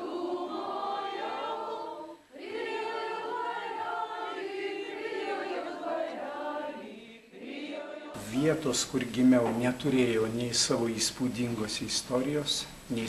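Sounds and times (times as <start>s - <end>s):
choir singing unaccompanied: 0.0s - 11.5s.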